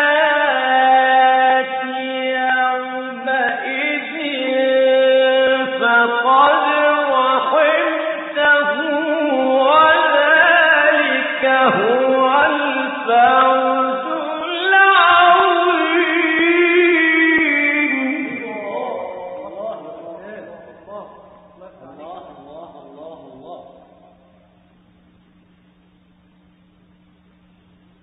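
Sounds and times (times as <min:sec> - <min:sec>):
man chanting melodically: 0:00.0 - 0:24.2.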